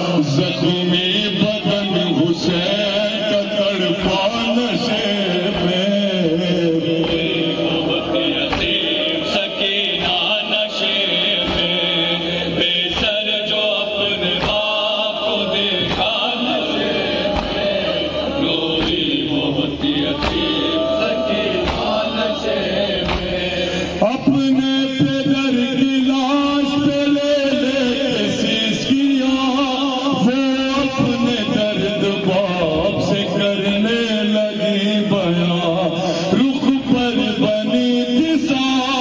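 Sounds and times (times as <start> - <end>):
steady beat of sharp strokes: 0.0 - 34.8
voices chanting a lament: 0.0 - 39.0.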